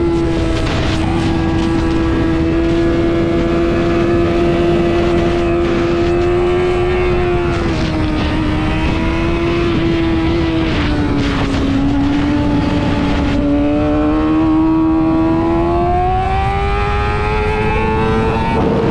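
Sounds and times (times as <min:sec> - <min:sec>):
motorcycle engine at high revs: 0:00.0 - 0:18.9
wind noise: 0:00.0 - 0:18.9.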